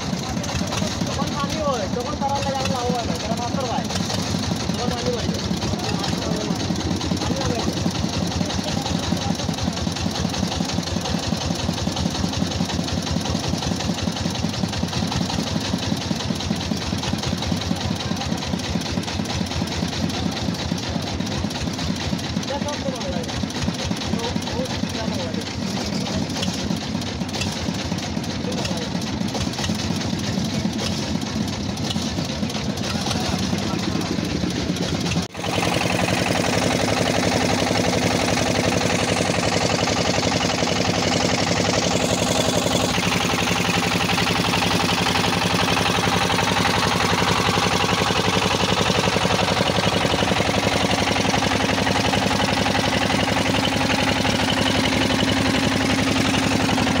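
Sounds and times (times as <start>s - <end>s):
motorboat engine running: 0.0s - 57.0s.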